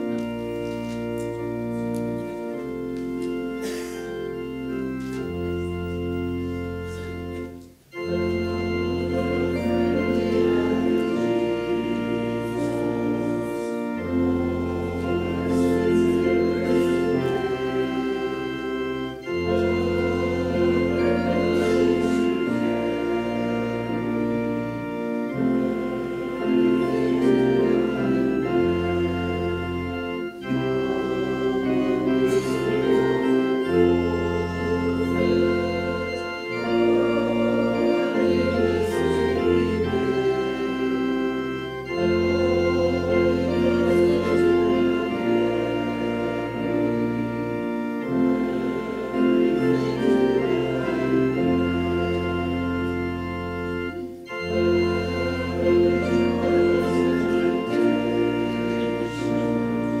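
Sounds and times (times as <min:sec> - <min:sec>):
organ bass line: 0:00.0 - 1:00.0
organ playing sustained chords: 0:00.0 - 1:00.0.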